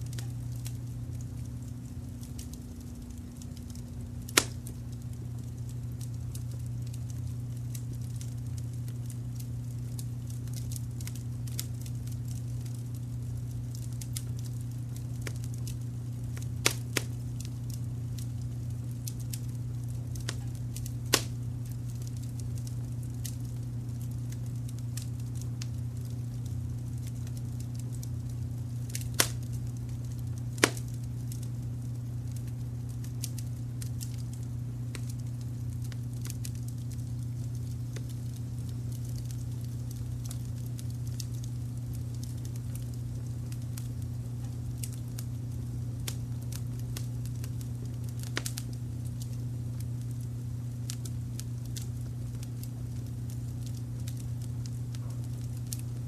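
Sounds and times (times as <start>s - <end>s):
fire popping: 0.0s - 56.0s
low brown noise rumble: 0.0s - 56.0s
wood fire crackling: 0.0s - 56.0s.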